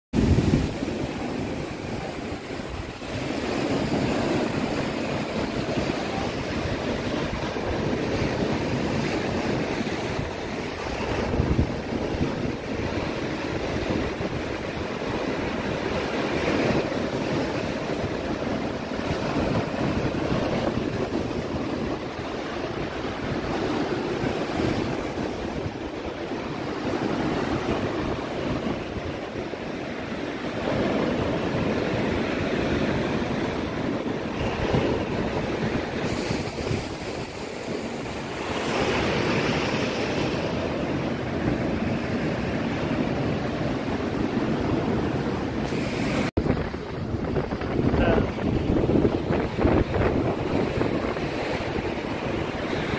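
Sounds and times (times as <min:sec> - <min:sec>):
stormy surf on pebble beach: 0:00.2 - 0:52.9.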